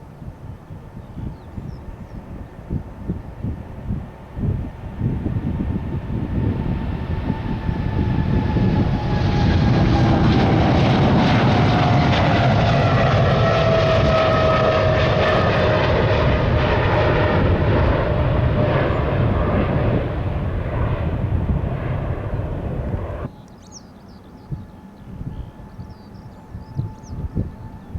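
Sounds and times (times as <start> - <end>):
jet engine roar: 1.8 - 27.9.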